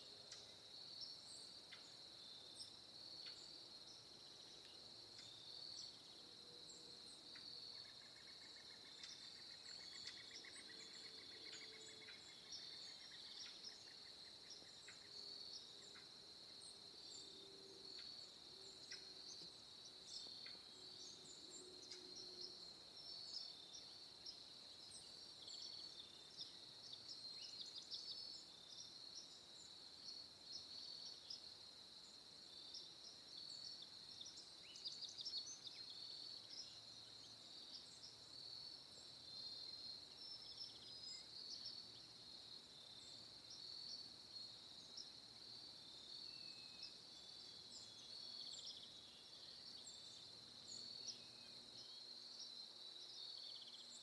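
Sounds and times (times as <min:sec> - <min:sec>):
insect chirring: 0:00.0 - 0:54.0.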